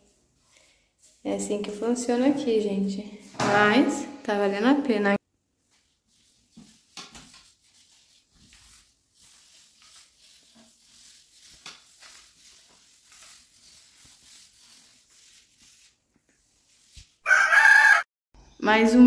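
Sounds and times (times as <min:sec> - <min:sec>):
paint roller swishing: 0:00.0 - 0:03.9, 0:05.5 - 0:17.3.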